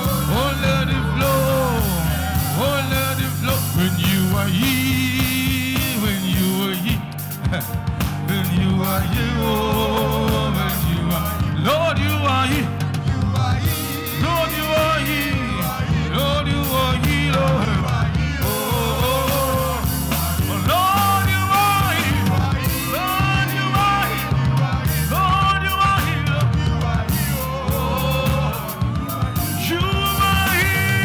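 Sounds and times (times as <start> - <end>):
band with strong bass: 0.0 - 31.0
voices singing held notes: 0.0 - 31.0.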